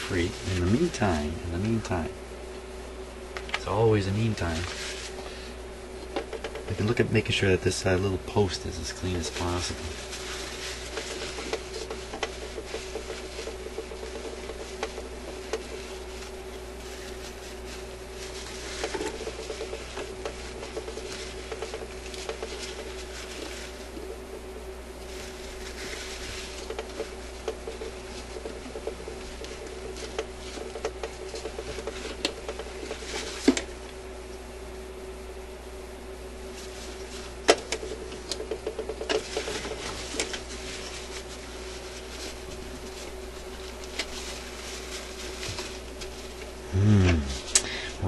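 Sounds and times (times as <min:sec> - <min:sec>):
paper tissue rustling: 0:00.0 - 0:02.0, 0:03.6 - 0:05.5, 0:06.6 - 0:33.9, 0:36.3 - 0:48.0
steady hum: 0:00.0 - 0:48.0.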